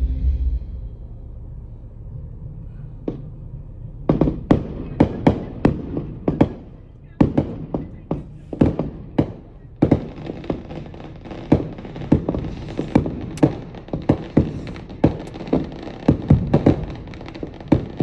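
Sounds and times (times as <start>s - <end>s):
rumble of fireworks bursts: 0.0s - 18.0s
fireworks bangs: 2.9s - 18.0s.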